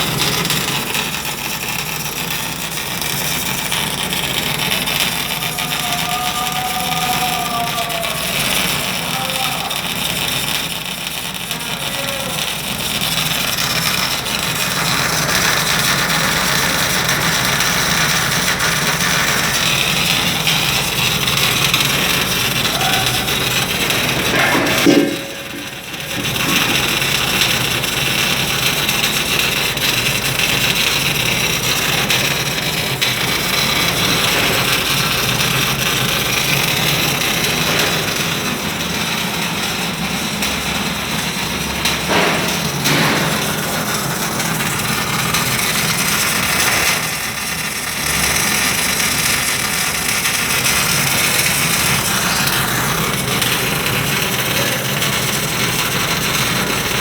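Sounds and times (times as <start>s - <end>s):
low machine hum: 0.0s - 57.0s
welding arc crackling and hissing: 0.0s - 57.0s.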